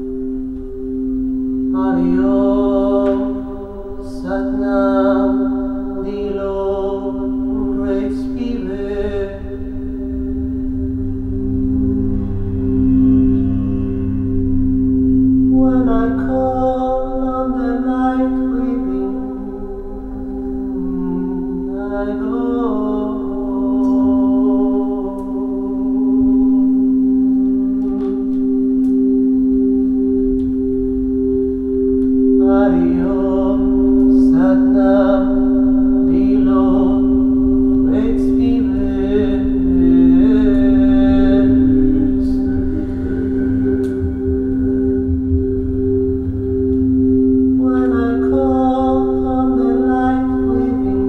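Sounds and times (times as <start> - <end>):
crystal singing bowls ringing: 0.0 - 51.0
voice singing a slow chant: 0.0 - 51.0.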